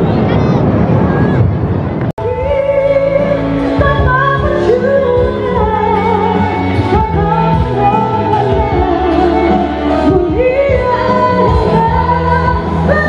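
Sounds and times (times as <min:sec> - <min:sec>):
music with singing: 0:02.2 - 0:13.0.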